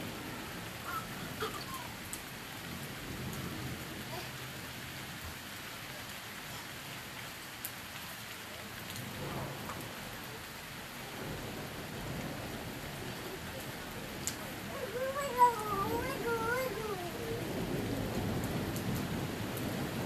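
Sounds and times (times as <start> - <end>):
rain falling: 0.0 - 20.0
raindrops ticking close by: 0.0 - 20.0.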